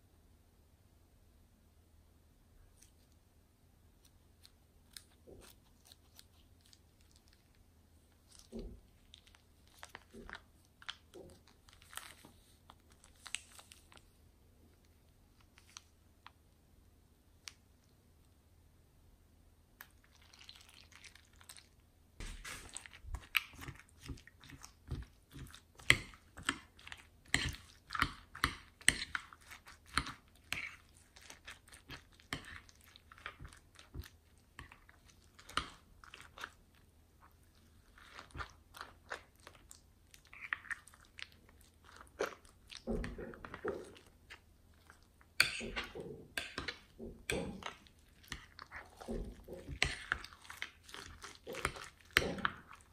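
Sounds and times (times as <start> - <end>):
spatula stirring slime: 3.9 - 16.5, 19.8 - 52.9.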